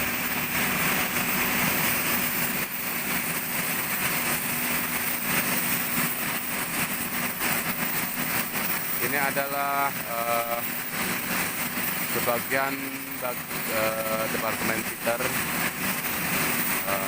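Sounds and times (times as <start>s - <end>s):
workshop machinery running: 0.0s - 17.0s.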